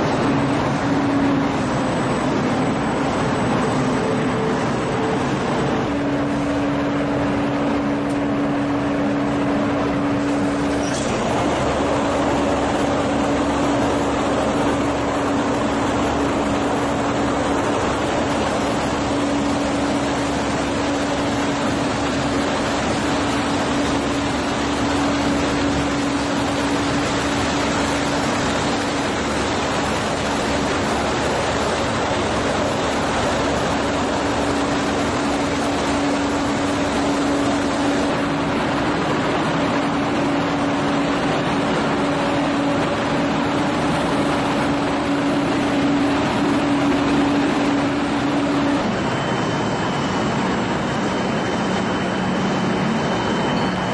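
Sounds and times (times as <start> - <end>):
low machine hum: 0.0 - 53.9
machinery rushing noise: 0.0 - 53.9.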